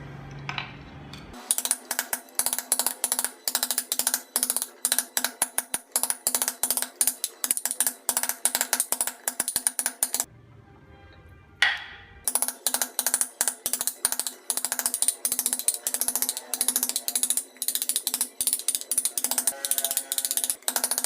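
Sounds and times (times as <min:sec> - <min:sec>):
carving tool clicking on wood: 0:01.5 - 0:10.3, 0:12.3 - 0:21.0.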